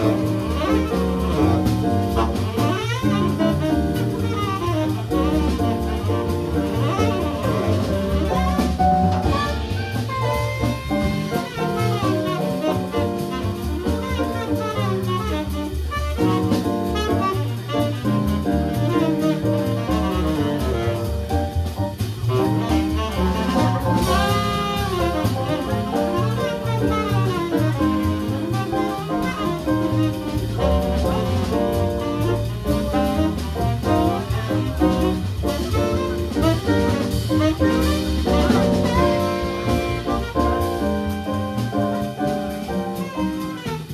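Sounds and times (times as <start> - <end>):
drum kit with cymbals: 0.0 - 43.9
jazz band playing: 0.0 - 43.9.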